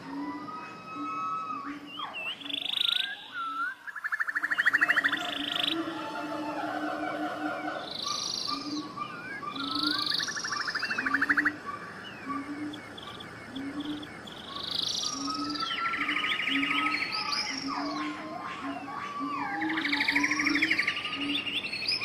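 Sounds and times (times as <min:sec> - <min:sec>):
chorus of birds calling: 0:00.0 - 0:22.0.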